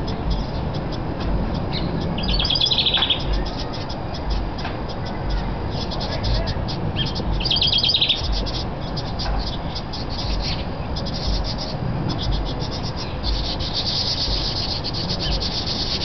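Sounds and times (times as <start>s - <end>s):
wren scolding chatter: 0.0s - 16.0s.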